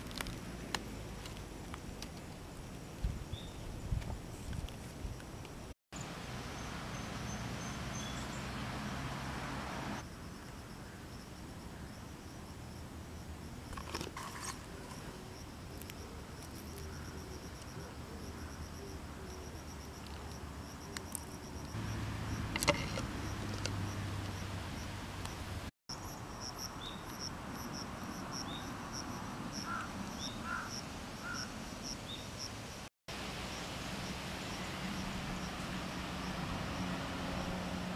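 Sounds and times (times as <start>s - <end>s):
insects chirping: 0.0s - 37.8s.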